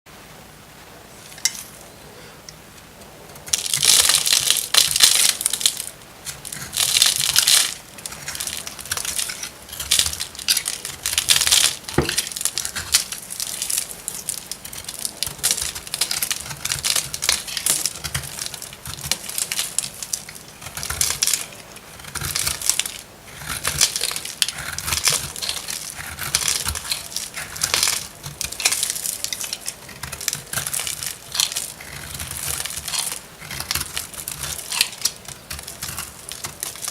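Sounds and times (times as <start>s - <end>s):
knife crunching through soap: 3.3s - 36.9s.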